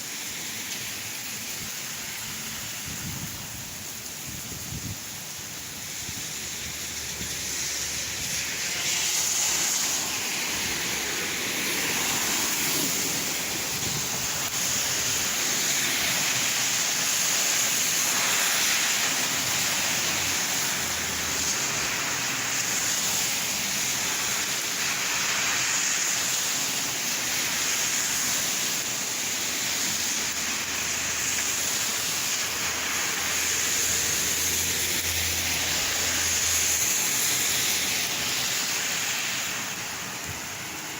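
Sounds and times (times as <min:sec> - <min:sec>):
heavy rain falling and splashing: 0:00.0 - 0:40.9.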